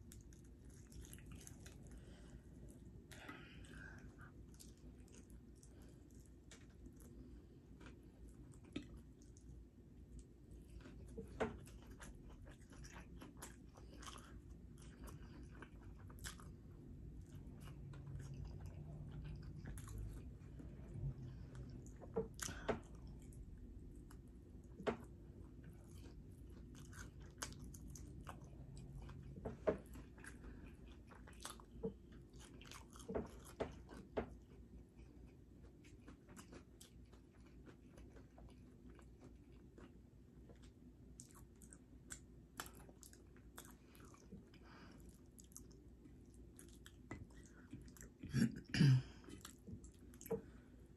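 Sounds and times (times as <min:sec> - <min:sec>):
person chewing fried chicken: 0:00.0 - 0:48.4, 0:49.0 - 0:50.9.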